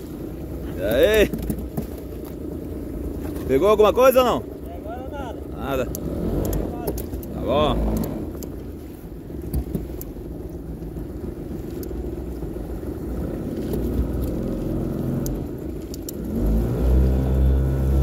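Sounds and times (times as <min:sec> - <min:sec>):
small boat motor running: 0:00.0 - 0:18.0.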